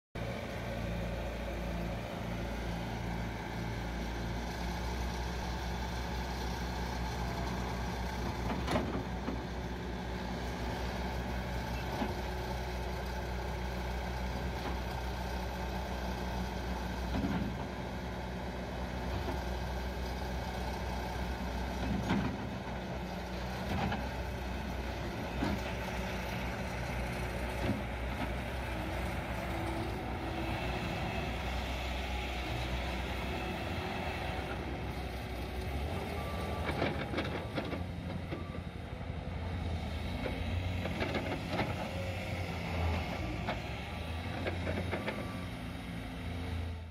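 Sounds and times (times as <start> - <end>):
loader diesel engine running: 0.2 - 46.9.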